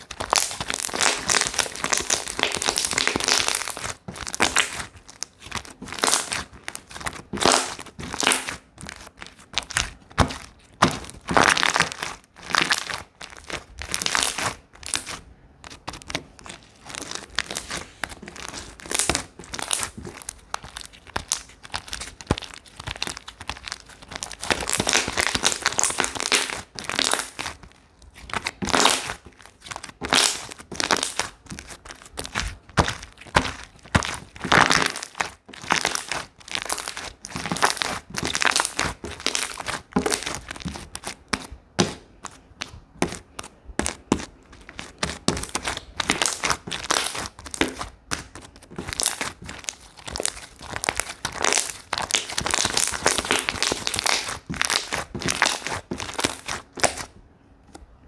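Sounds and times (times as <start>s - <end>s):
slime squished by hand crackling: 0.0s - 57.8s.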